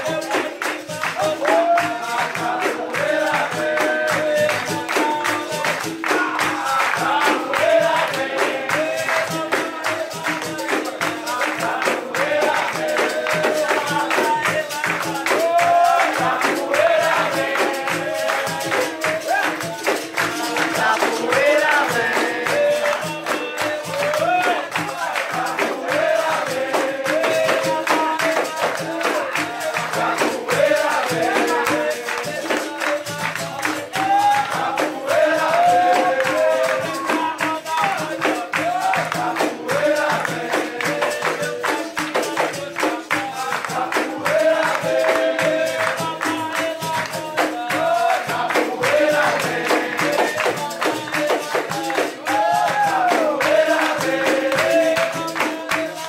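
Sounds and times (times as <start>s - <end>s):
group singing: 0.0s - 56.0s
hand drum rhythm: 0.0s - 56.0s
people clapping along: 0.0s - 56.0s.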